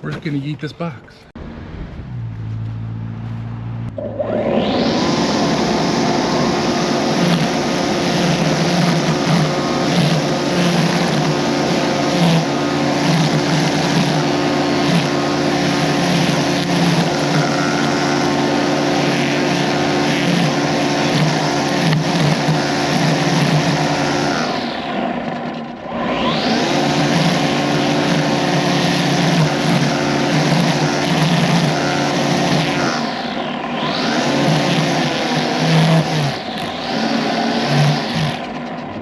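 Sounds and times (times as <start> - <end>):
electric lawn tool motor whine: 2.6 - 39.0.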